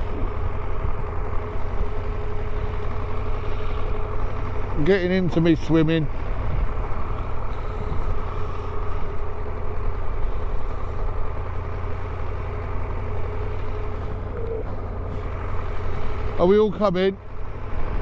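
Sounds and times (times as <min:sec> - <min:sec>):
vehicle engine drone: 0:00.0 - 0:18.0.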